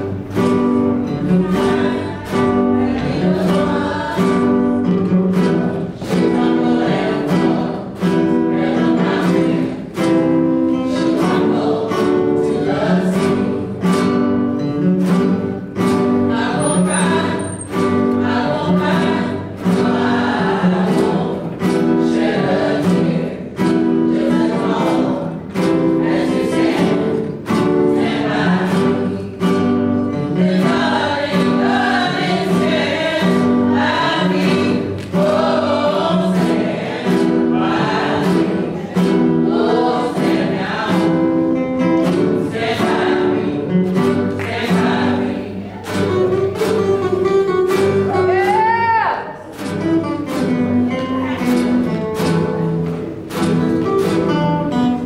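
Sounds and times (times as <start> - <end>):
group singing in harmony: 0.0 - 48.1
acoustic guitars strumming: 0.0 - 55.0.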